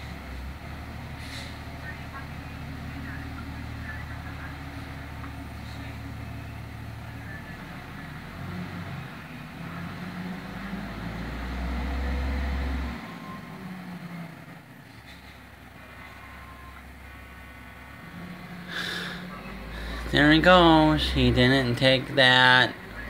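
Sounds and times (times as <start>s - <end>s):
garbage truck engine revving: 0.0s - 23.0s.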